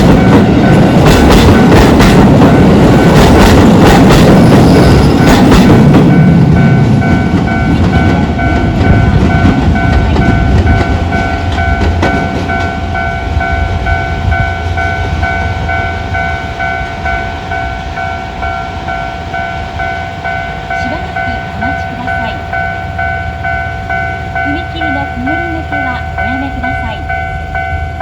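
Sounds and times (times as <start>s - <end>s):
crossing warning bell ringing: 0.0s - 28.0s
electric train passing: 0.0s - 28.0s.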